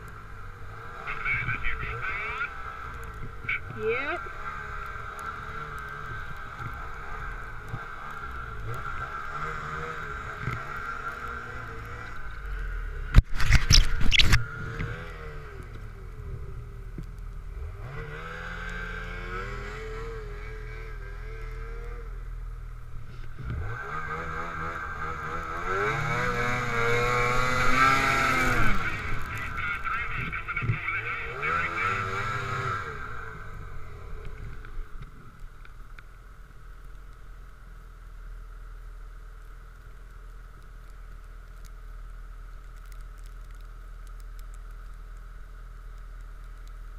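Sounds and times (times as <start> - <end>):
snowmobile engines idling and revving: 0.0 - 46.9.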